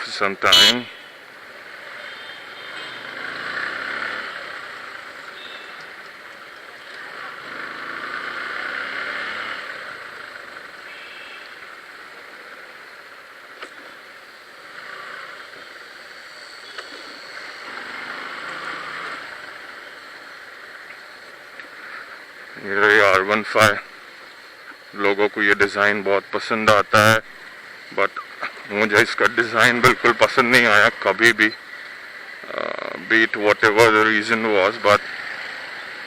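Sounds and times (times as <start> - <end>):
road and traffic noise: 0.0 - 36.0
vehicles passing: 0.0 - 36.0.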